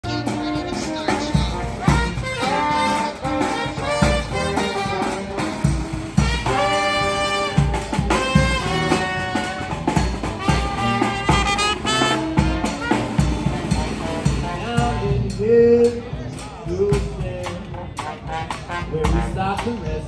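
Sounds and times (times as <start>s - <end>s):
brass band playing jazz: 0.0s - 20.0s.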